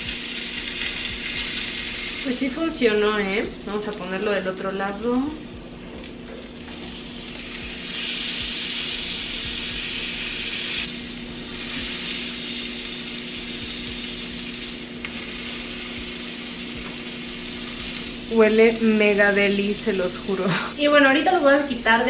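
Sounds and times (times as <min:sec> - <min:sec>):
meat sizzling in a grill pan: 0:00.0 - 0:05.2, 0:06.5 - 0:22.0.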